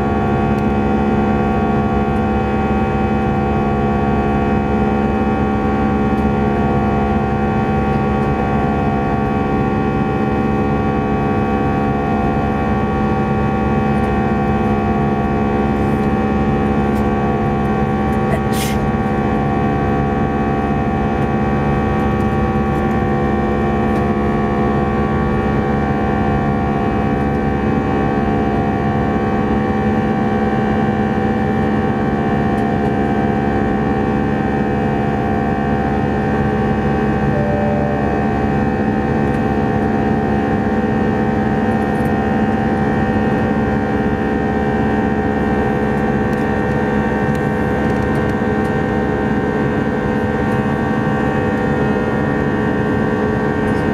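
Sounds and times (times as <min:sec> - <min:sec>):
jet engine drone in cabin: 0:00.0 - 0:53.9.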